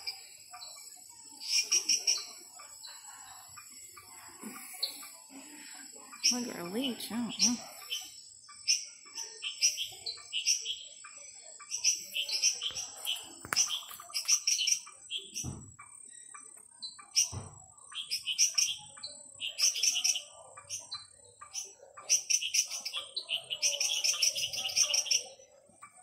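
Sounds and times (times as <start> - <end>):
frogs chirping: 0.0 - 26.0.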